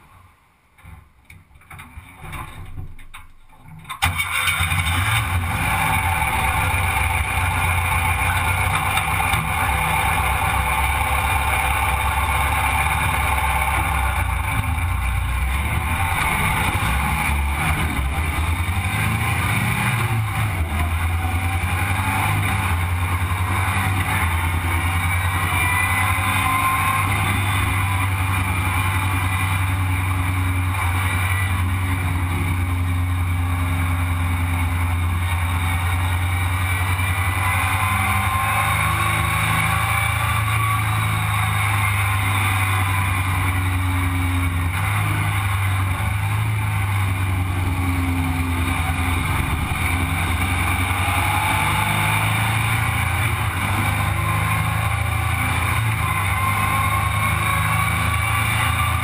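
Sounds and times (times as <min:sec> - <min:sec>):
engine running steadily: 0:04.0 - 0:59.0.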